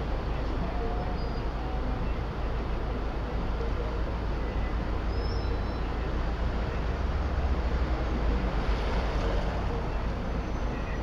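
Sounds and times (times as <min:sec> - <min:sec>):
street noise: 0:00.0 - 0:11.0
traffic engines idling: 0:00.0 - 0:11.0.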